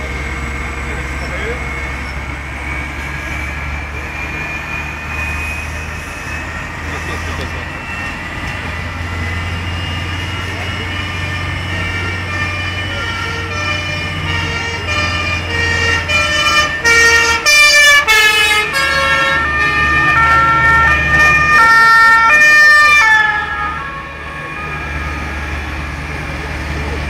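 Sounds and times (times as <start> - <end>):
low engine rumble: 0.0 - 27.0
two-tone emergency siren: 0.0 - 27.0.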